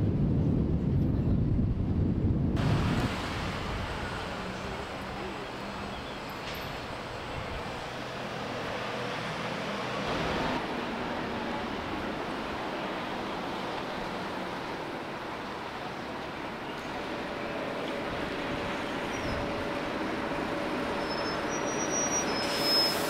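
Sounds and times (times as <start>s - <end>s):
roadway noise hiss: 2.6s - 23.0s.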